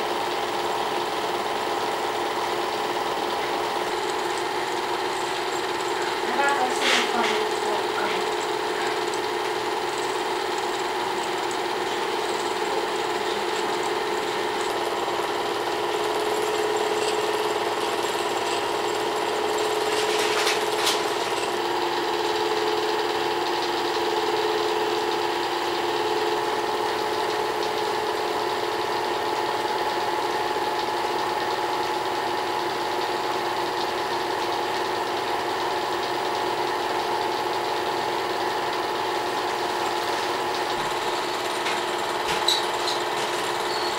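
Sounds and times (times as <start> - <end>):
film projector running: 0.0 - 43.9.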